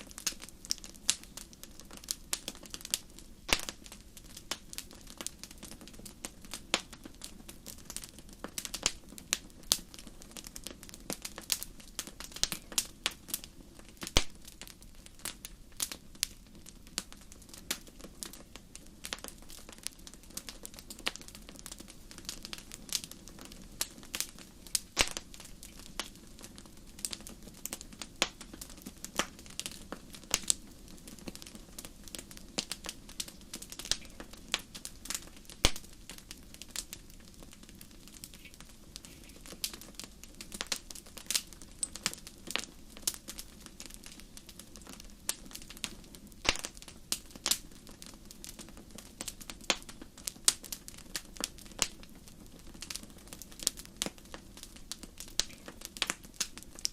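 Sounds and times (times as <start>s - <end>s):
fire crackling with sharp pops: 0.0s - 56.9s
low noise of flames: 0.0s - 56.9s.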